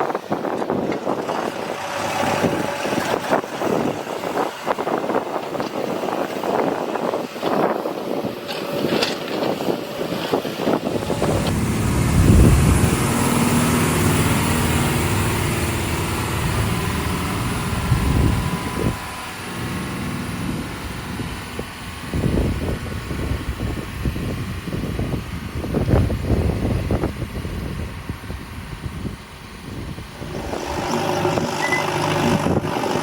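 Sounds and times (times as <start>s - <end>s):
wind-like noise: 0.0s - 32.8s
heavy diesel engine running: 0.0s - 33.0s.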